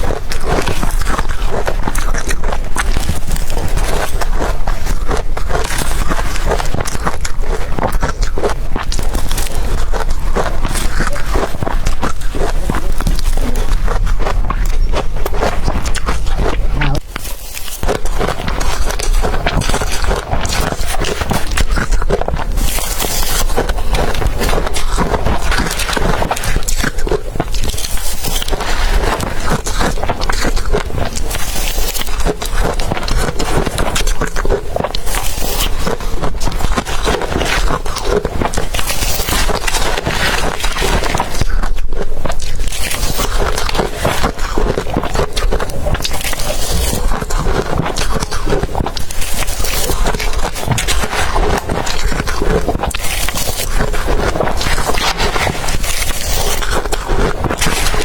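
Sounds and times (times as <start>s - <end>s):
ice being crunched: 0.0s - 58.0s.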